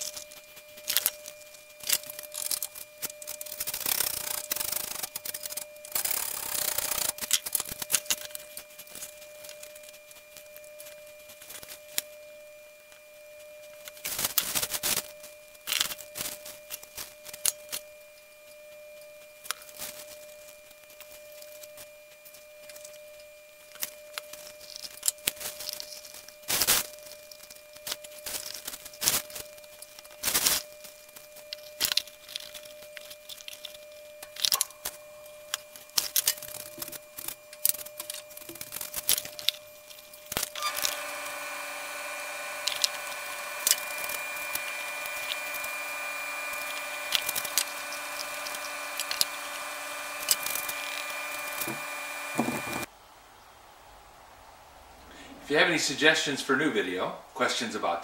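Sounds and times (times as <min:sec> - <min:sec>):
steady multi-tone hum: 0:00.0 - 0:52.9.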